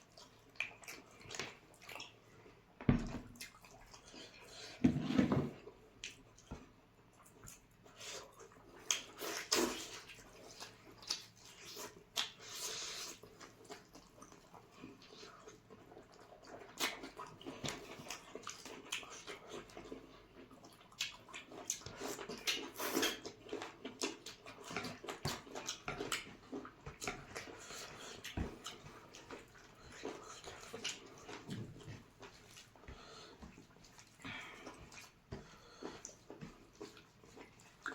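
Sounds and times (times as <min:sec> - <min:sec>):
people chewing and smacking: 0:00.0 - 0:37.9.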